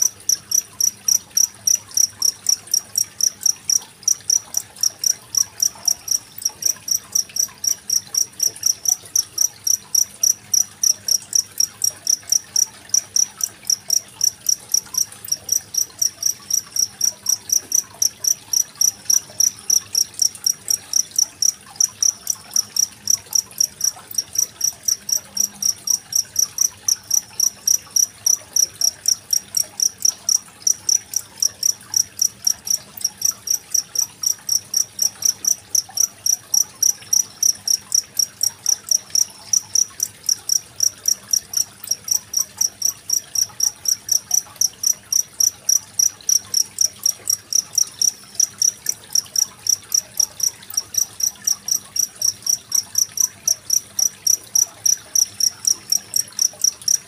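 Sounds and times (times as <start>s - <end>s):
cricket chirping: 0.0s - 57.0s
faint trickling water: 0.0s - 57.0s.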